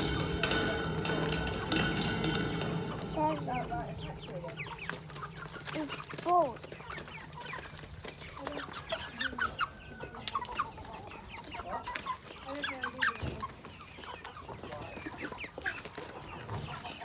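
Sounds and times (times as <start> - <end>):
chickens clucking: 0.0 - 17.0
chicks peeping: 0.0 - 17.0.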